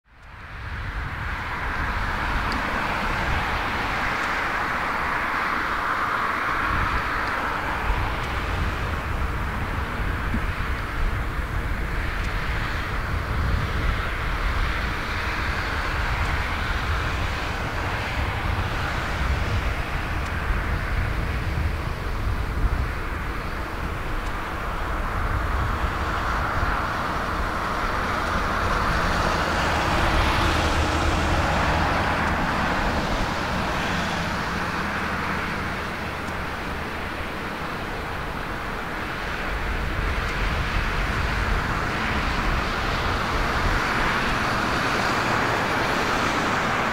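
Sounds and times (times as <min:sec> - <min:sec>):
jet engines rumbling and hissing: 0:00.1 - 0:46.9.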